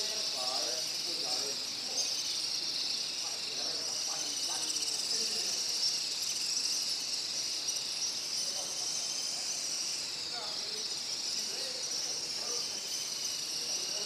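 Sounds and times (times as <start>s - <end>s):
faint lower bird chirps: 0.0s - 14.0s
high-pitched bird twittering: 0.0s - 14.0s.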